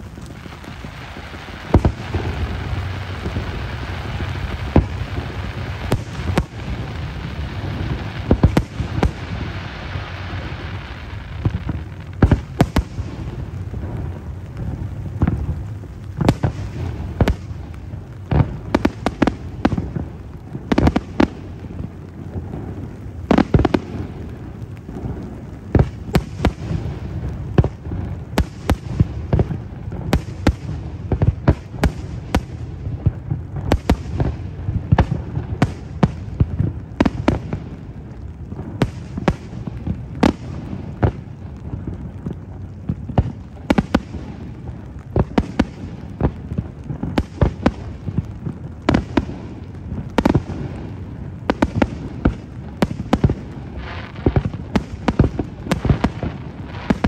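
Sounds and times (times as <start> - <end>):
continuous low rumble: 0.0 - 57.0
fireworks bangs: 0.0 - 57.0.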